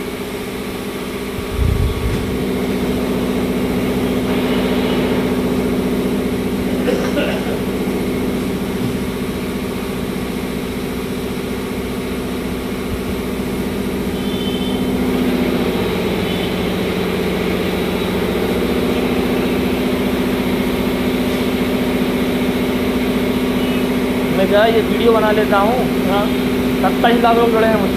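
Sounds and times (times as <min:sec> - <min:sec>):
vehicle engine humming: 0:00.0 - 0:27.9.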